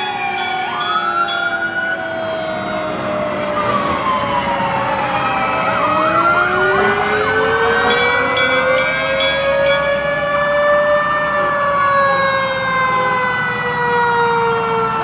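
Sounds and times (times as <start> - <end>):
fire truck sirens wailing: 0.0 - 15.0
siren yelping warble: 0.0 - 15.0.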